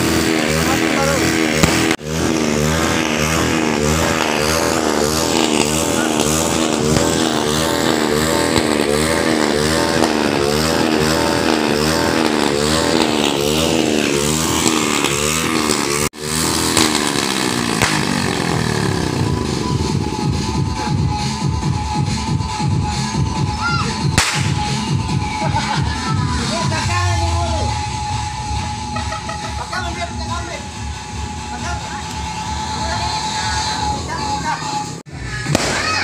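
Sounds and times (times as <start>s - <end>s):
motorcycle engine revving: 0.0s - 35.7s.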